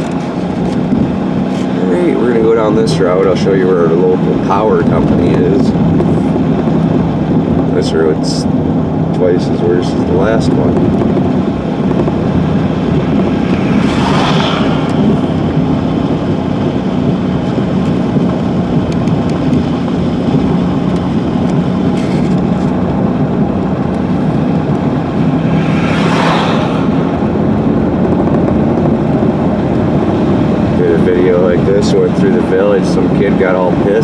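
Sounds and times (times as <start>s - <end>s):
engine and road drone: 0.0s - 34.0s.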